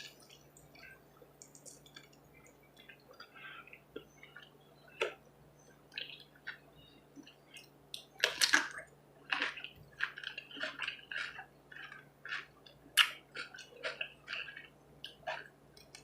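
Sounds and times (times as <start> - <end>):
person chewing wetly: 0.0 - 5.2, 5.8 - 16.0
faint steady hum: 0.0 - 16.0.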